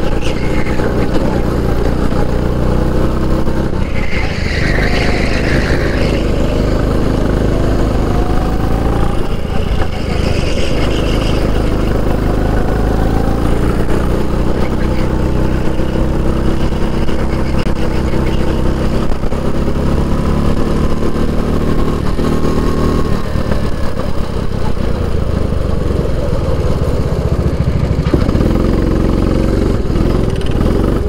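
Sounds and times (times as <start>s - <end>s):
kart engine running: 0.0s - 31.0s.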